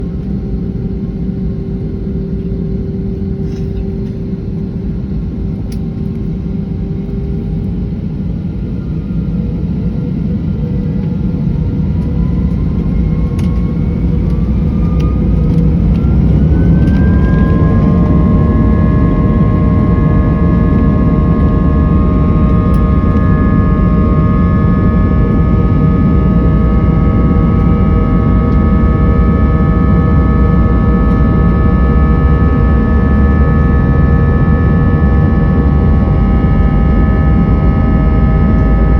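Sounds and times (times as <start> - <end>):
jet engines spooling up: 1.4 - 38.9.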